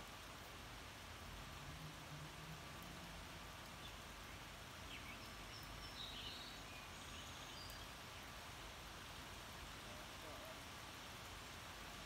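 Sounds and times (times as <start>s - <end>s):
light rain shower hiss: 0.0s - 12.0s.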